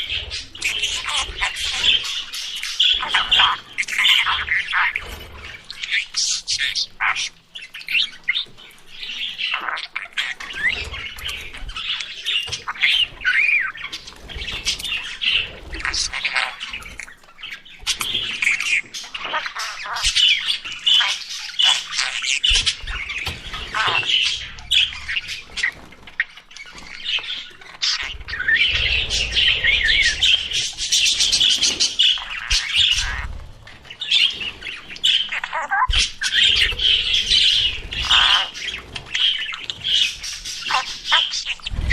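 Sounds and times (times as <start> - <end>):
budgerigars chirping: 0.0 - 41.9.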